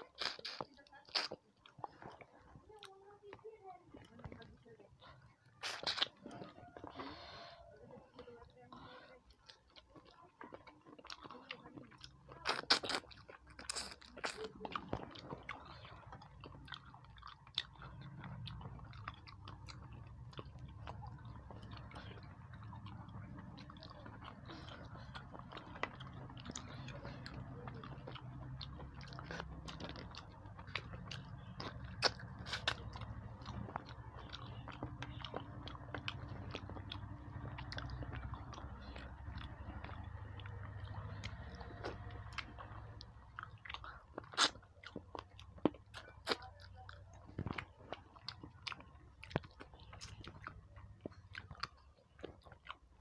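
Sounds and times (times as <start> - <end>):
person chewing food: 0.0 - 53.0
mouth clicks and smacks: 3.9 - 53.0
steady low hum: 4.0 - 53.0.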